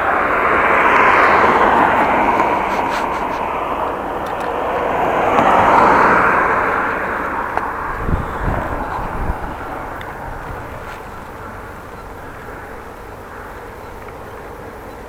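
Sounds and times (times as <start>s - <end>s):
bicycle tyre and road noise: 0.0s - 15.0s
wind buffeting microphone: 0.0s - 15.0s.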